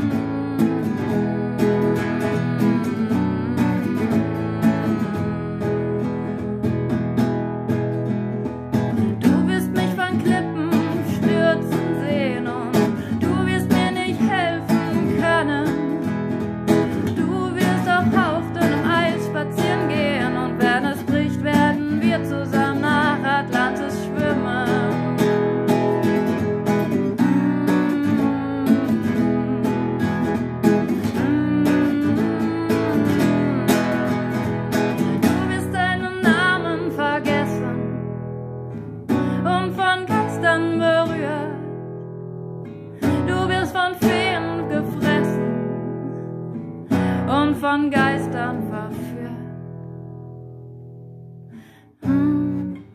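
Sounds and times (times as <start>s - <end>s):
woman singing: 0.0s - 50.0s, 51.6s - 52.9s
acoustic guitar strumming chords: 0.0s - 52.9s.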